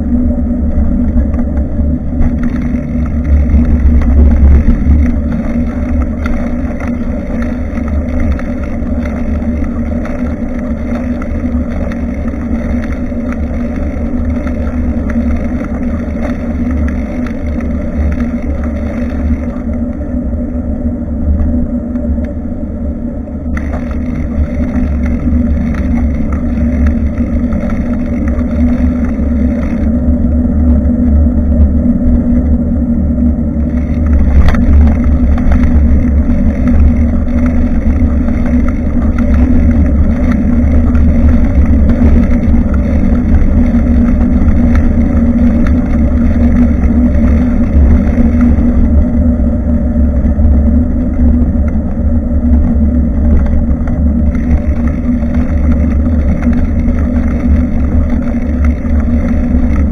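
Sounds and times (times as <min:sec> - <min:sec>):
road rumble: 0:00.0 - 0:59.9
steady hum: 0:00.0 - 0:59.9
wind buffeting microphone: 0:00.0 - 0:59.9.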